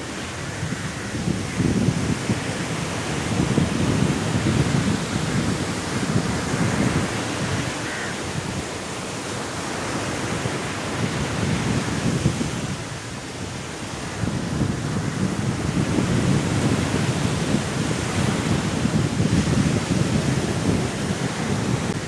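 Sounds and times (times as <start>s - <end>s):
sea waves breaking on shore: 0.0s - 22.0s
strong wind: 0.0s - 22.0s.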